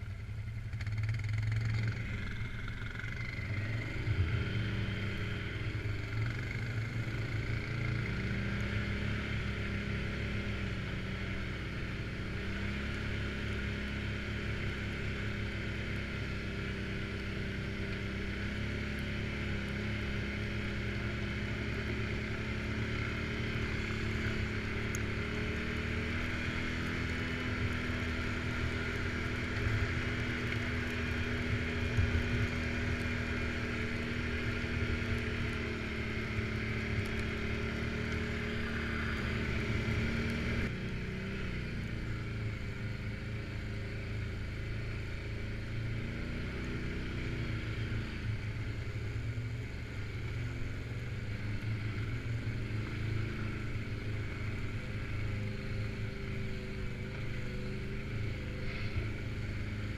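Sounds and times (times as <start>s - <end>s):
quad bike engine revving: 0.7s - 43.3s, 51.8s - 59.9s.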